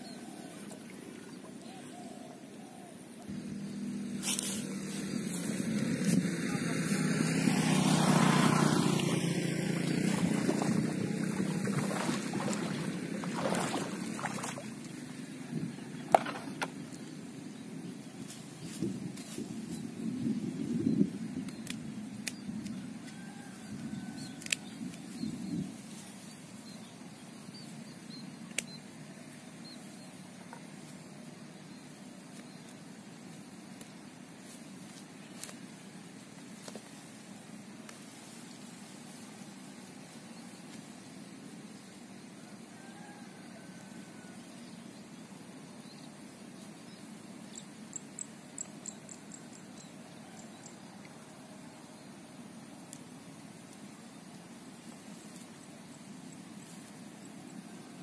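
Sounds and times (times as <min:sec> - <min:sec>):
outdoor background noise: 0:00.0 - 0:58.0.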